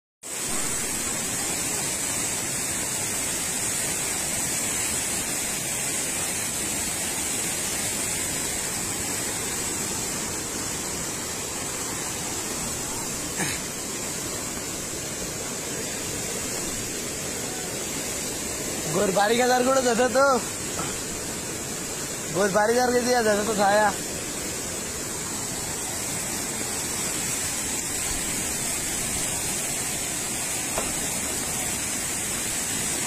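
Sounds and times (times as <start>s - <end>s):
floodwater rushing: 0.2s - 33.0s.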